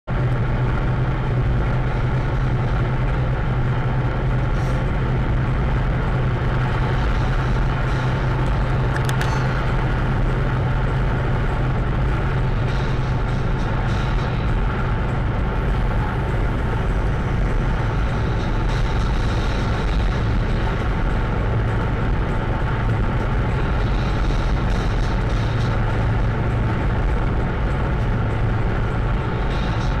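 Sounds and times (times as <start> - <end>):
truck diesel engine drone: 0.0 - 30.0
tyre and road noise: 0.0 - 30.0.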